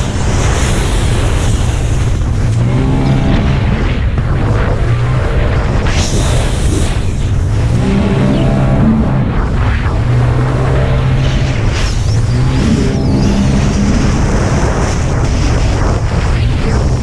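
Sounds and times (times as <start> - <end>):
wind and water spray rush: 0.0 - 7.8, 8.8 - 17.0
jet ski engine running hard: 0.0 - 15.9.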